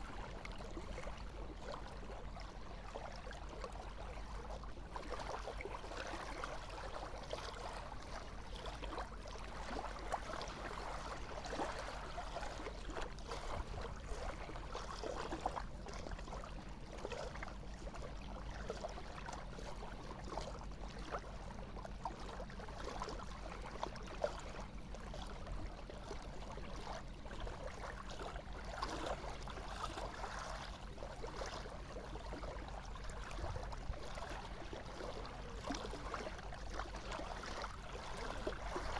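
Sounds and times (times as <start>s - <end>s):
seawater lapping and gurgling: 0.0s - 38.9s.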